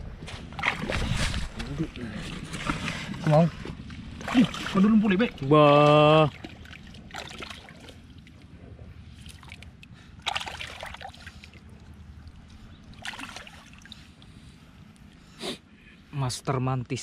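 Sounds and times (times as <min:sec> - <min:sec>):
seawater sloshing and splashing: 0:00.0 - 0:14.4.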